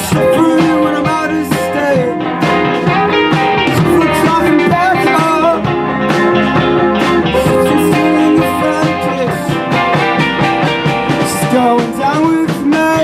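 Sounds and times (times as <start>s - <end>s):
electric guitar bending notes: 0.0s - 13.0s
rock band playing: 0.0s - 13.0s
steady drum beat: 0.0s - 13.0s.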